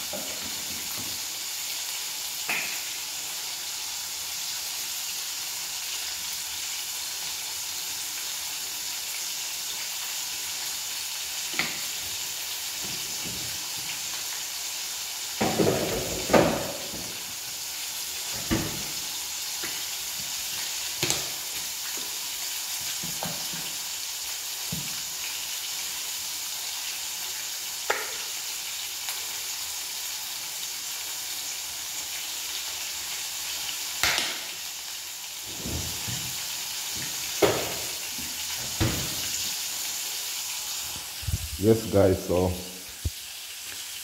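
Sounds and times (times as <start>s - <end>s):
hot oil sizzling: 0.0s - 44.0s.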